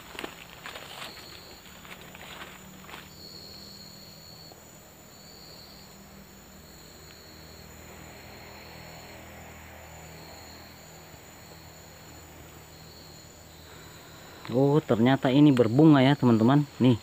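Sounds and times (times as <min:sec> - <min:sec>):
faint low hum: 0:00.0 - 0:17.0
insects trilling: 0:00.0 - 0:17.0.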